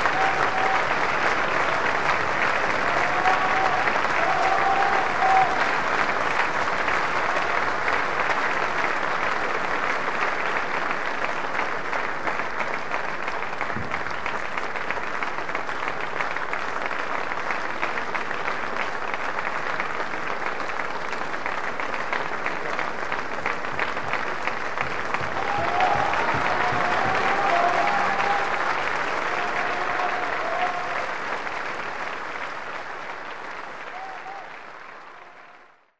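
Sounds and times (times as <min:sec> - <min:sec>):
audience applauding: 0:00.0 - 0:35.9.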